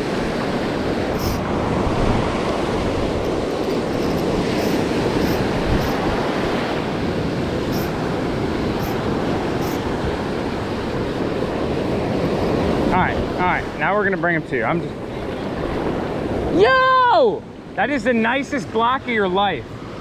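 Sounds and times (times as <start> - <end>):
wind rumbling on microphone: 0.0 - 17.8
ocean surf washing up beach: 0.0 - 20.0.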